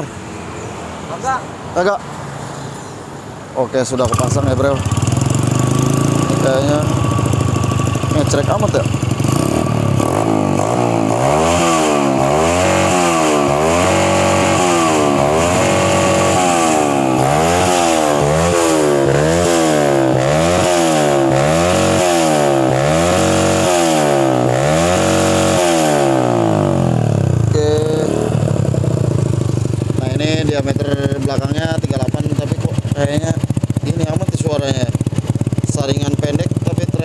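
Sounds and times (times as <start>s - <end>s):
motorcycle engine revving: 3.8s - 37.0s.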